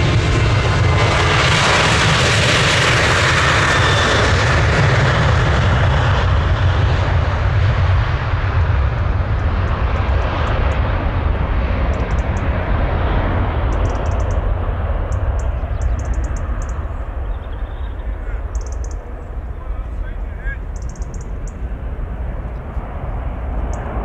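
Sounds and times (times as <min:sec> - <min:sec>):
jet engines at high power: 0:00.0 - 0:24.0.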